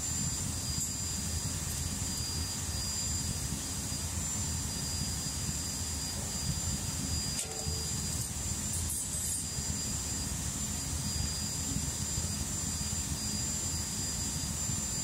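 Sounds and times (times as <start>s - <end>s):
furnace burner roar: 0.0s - 15.0s.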